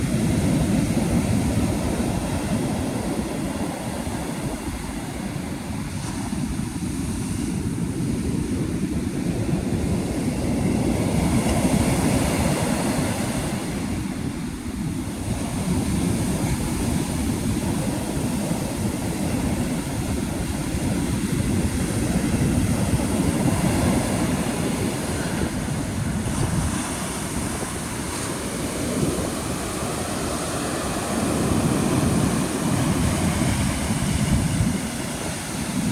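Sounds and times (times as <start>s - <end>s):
surf breaking on a beach: 0.0s - 35.9s.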